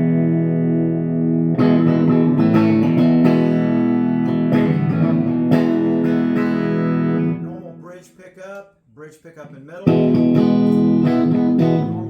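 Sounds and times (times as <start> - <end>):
electric guitar chords and notes: 0.0 - 7.8, 9.8 - 12.0.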